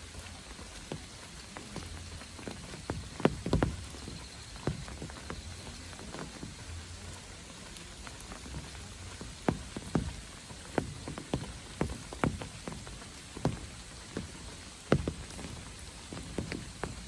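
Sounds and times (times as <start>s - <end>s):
hiss of light rain: 0.0s - 17.0s
large raindrops tapping: 0.0s - 17.0s.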